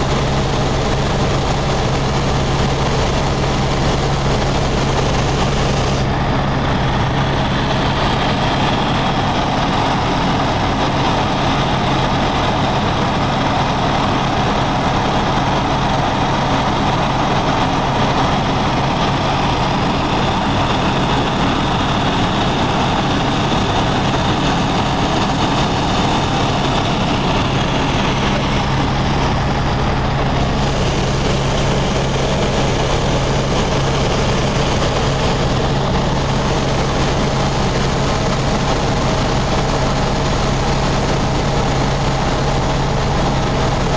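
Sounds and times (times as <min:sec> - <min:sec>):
helicopter engine and rotors: 0:00.0 - 0:43.9.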